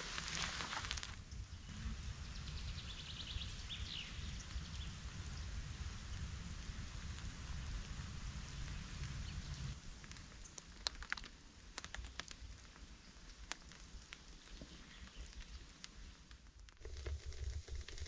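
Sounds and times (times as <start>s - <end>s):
rain falling on forest floor: 0.0s - 18.0s.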